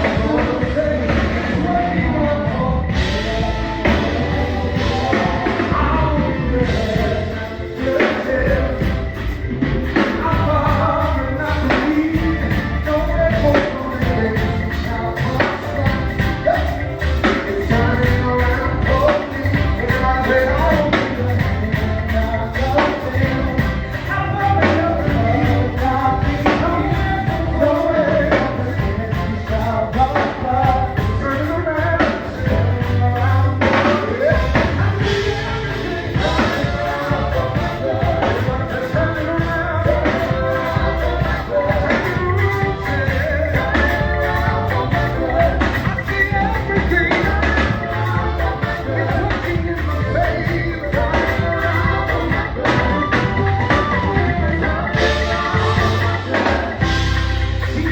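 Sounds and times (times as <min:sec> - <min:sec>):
band playing with singing: 0:00.0 - 0:57.9.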